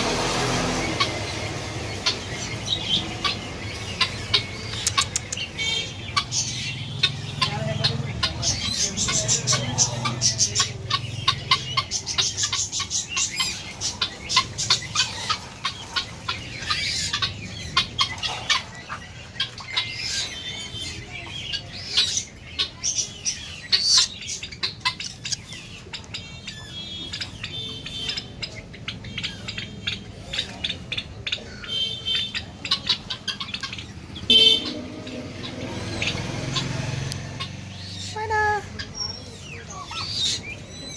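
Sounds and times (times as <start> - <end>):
caged birds chirping and squawking: 0.0 - 40.9.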